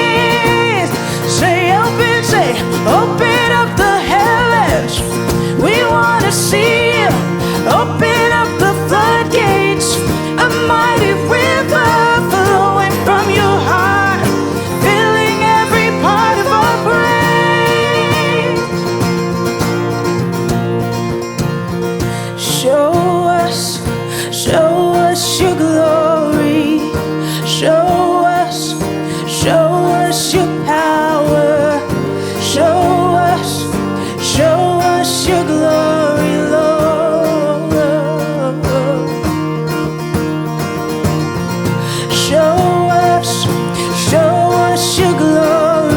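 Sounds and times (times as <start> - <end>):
person singing: 0.0 - 19.7, 22.0 - 40.0, 41.6 - 45.9
acoustic guitar: 0.0 - 45.9.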